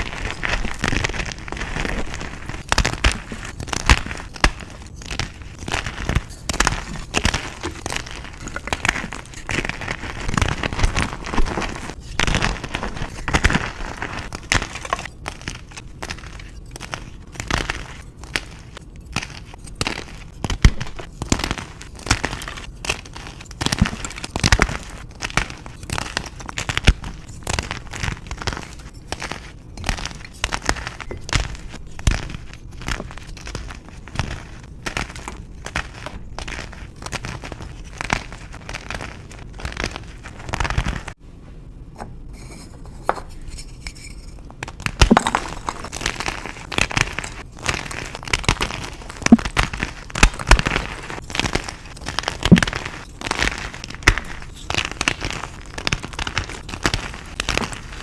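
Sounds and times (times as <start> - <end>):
chalk crunching and crackling: 0.0 - 41.2, 42.4 - 58.0.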